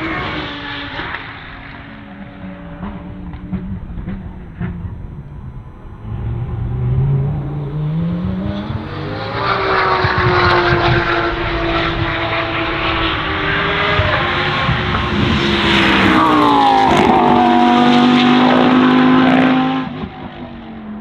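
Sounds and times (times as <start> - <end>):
race car engine accelerating: 0.0 - 21.0.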